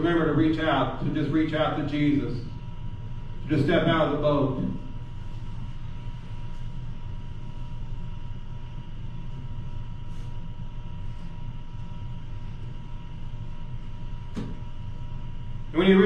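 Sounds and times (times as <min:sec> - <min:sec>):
low room rumble: 0:00.0 - 0:16.0.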